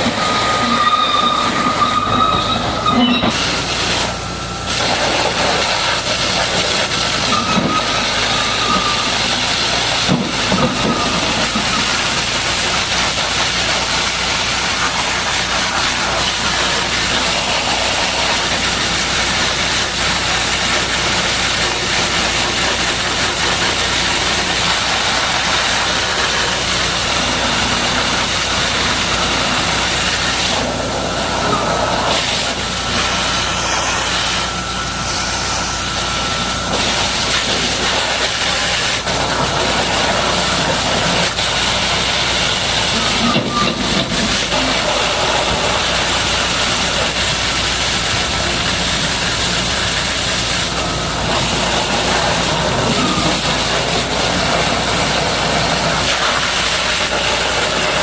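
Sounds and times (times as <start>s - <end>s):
water jet spraying on metal: 0.0s - 58.0s.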